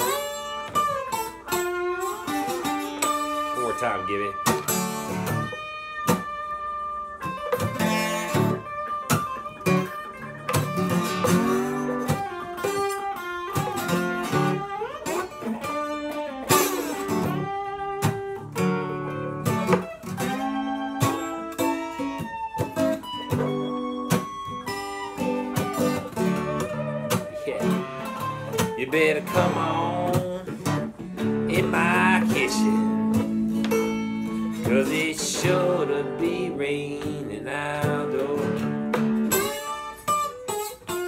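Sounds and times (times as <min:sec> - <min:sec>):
acoustic guitar: 0:00.0 - 0:41.0
electric guitar blues lead: 0:00.0 - 0:41.0.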